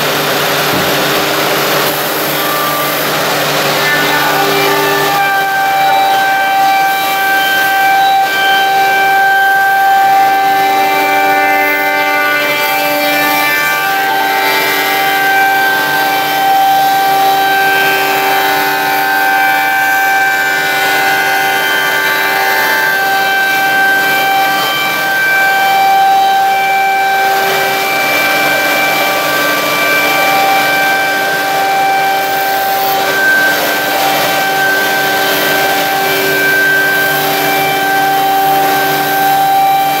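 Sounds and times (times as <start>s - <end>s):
spindle motors whining: 0.0s - 40.0s.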